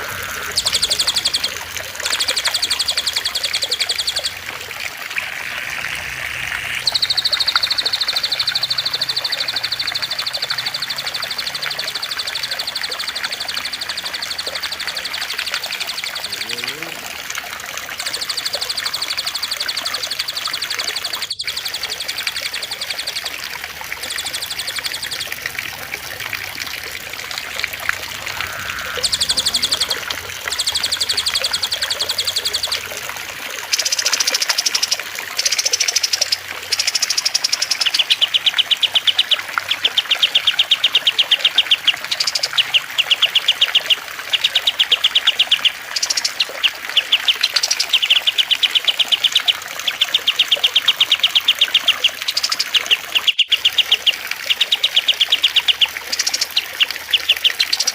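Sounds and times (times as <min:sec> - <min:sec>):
buzzy bird trills: 0:00.0 - 0:57.9
running water trickling: 0:00.0 - 0:57.9.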